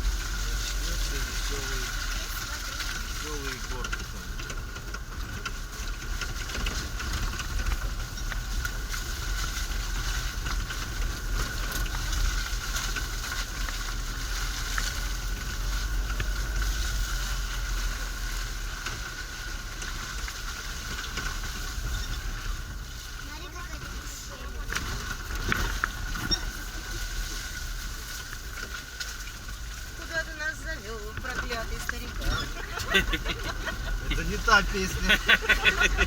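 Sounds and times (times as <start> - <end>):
vehicle engine and road noise: 0.0 - 36.0.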